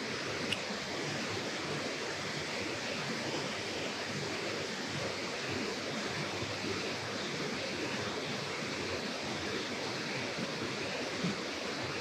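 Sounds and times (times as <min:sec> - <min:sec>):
water rushing over dam: 0:00.0 - 0:12.0.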